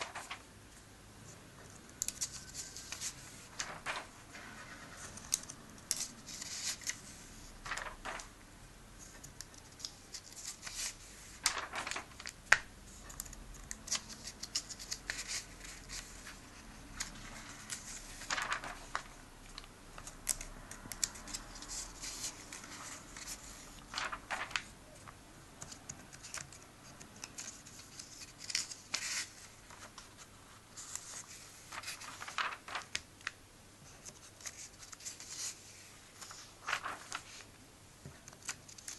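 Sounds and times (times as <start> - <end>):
pages turning: 0.0 - 0.5, 1.6 - 8.3, 9.0 - 37.6, 38.2 - 38.9
paper handling noise: 0.0 - 8.4, 9.0 - 38.9.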